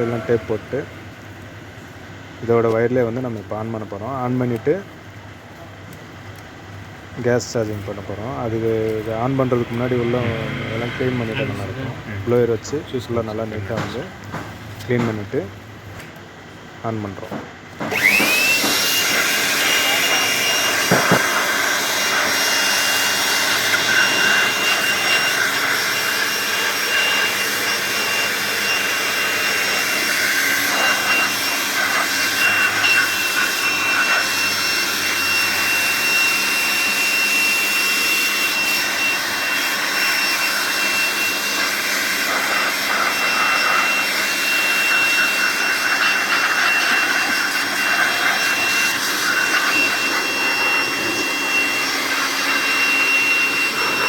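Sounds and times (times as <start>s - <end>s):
electric air blower rushing: 0.0s - 1.3s, 7.1s - 15.5s, 17.8s - 54.0s.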